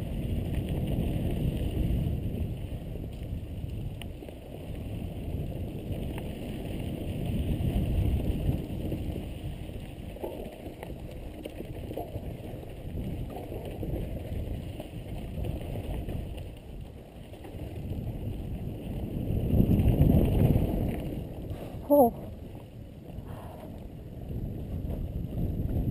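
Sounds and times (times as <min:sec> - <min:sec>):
bike rattles and clicks: 0:00.0 - 0:25.9
bike tyres on dirt: 0:00.0 - 0:25.9
wind buffeting microphone: 0:00.0 - 0:25.9.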